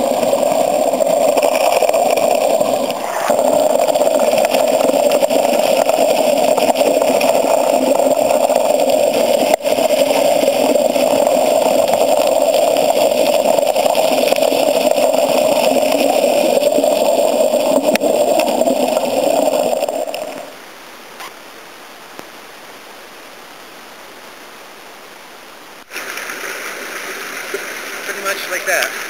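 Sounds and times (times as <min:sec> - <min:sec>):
muffled water rushing: 0:00.0 - 0:21.2, 0:25.6 - 0:29.0.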